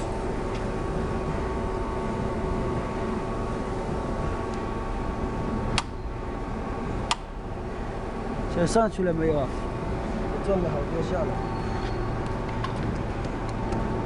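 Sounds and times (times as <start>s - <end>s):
machine electric hum: 0.0s - 14.0s.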